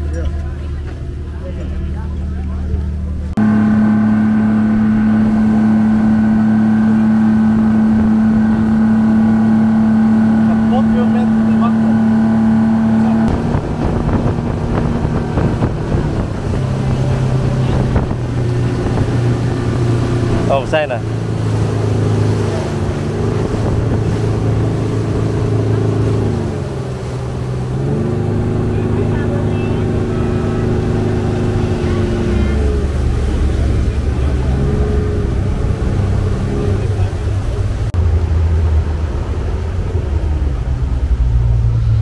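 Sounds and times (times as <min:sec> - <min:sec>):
speedboat engine droning: 0:00.0 - 0:42.0.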